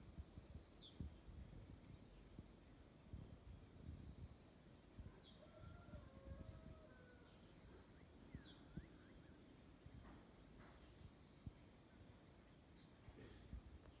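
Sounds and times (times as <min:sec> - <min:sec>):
wind rumble on microphone: 0:00.0 - 0:11.9
insect drone: 0:00.0 - 0:14.0.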